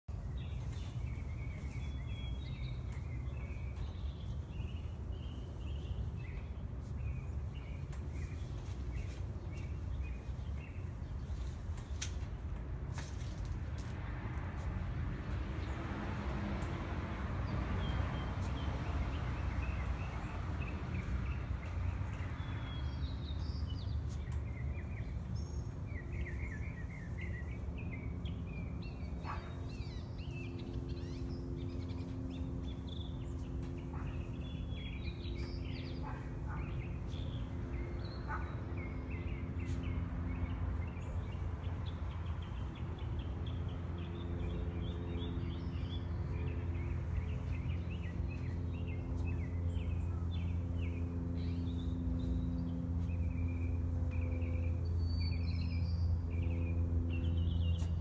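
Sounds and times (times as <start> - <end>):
small birds chirping: 0.1 - 58.0.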